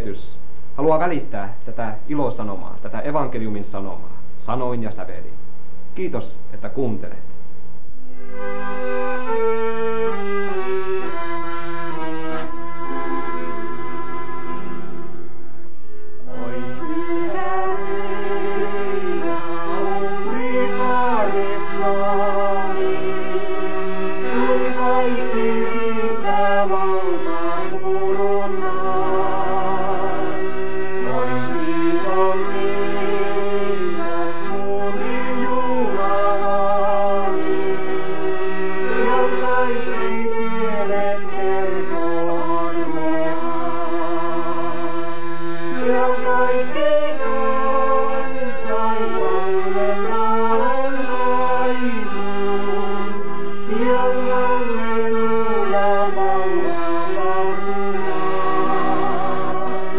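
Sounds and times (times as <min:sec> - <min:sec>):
accordions playing slow melody: 0:08.0 - 0:59.9.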